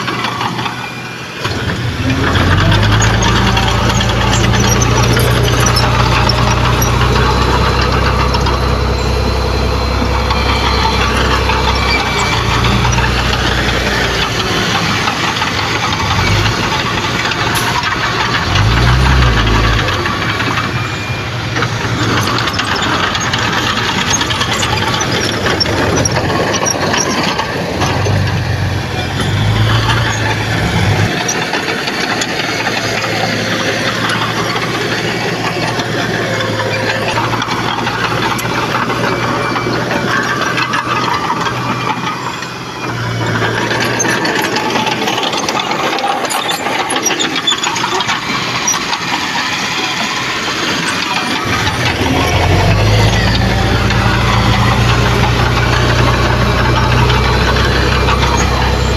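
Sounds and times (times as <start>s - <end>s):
diesel earthmover engine running: 0.0s - 58.9s.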